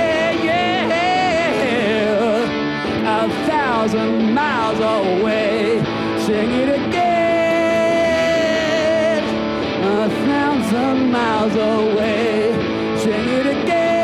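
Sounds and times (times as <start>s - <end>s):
electric guitar: 0.0s - 14.0s
man singing: 0.0s - 14.0s.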